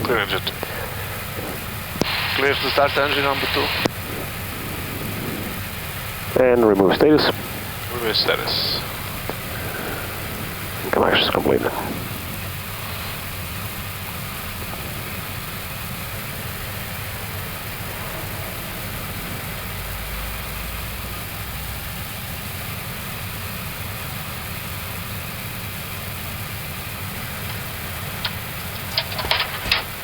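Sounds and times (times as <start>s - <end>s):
low engine rumble: 0.0s - 30.0s
ventilation hiss: 0.0s - 30.0s.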